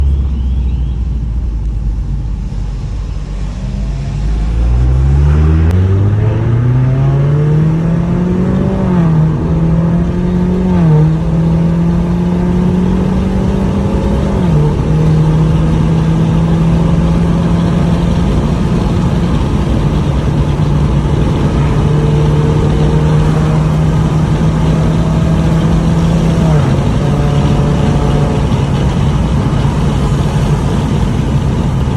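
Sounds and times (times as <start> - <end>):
car engine accelerating with gear shifts: 0.0 - 31.9
car engine idling: 0.0 - 31.9.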